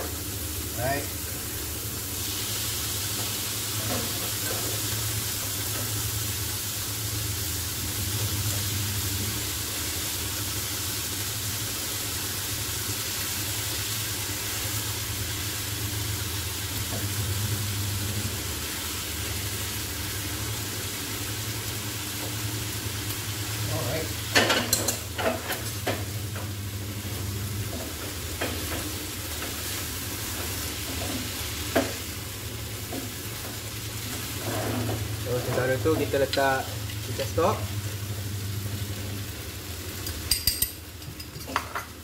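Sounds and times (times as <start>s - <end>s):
chicken sizzling in a frying pan: 0.0s - 42.0s.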